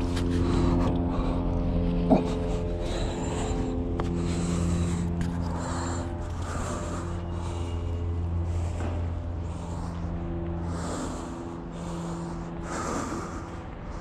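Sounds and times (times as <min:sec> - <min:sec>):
low machine hum: 0:00.0 - 0:14.0
slow heavy breathing: 0:00.0 - 0:14.0.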